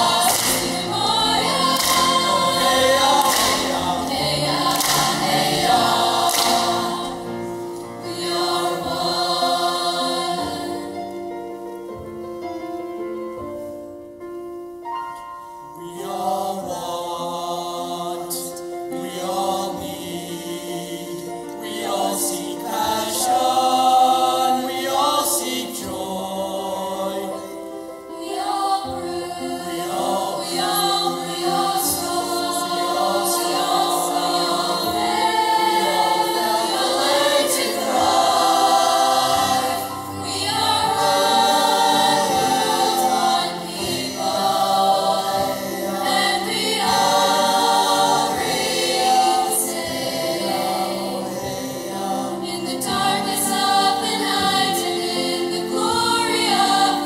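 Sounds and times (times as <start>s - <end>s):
mixed choir singing in parts: 0.0s - 13.4s, 15.7s - 57.0s.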